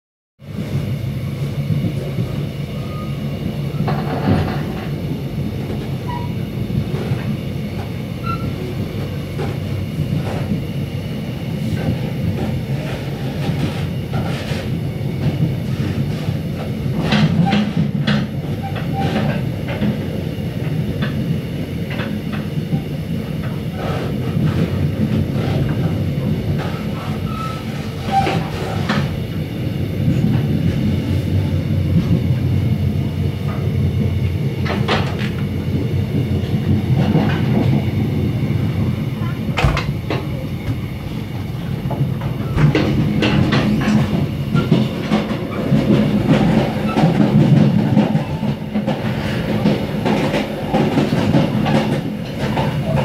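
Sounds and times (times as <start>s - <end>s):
train rumbling: 0.4s - 53.0s.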